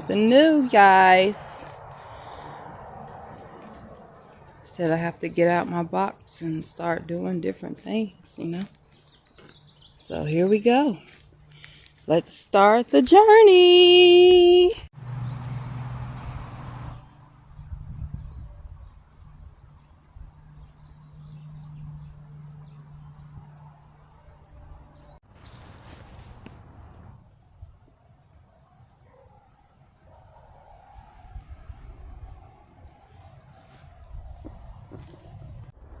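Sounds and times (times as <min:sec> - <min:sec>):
crickets chirping: 0:00.0 - 0:07.3, 0:08.0 - 0:12.1, 0:15.2 - 0:16.4, 0:17.2 - 0:36.0.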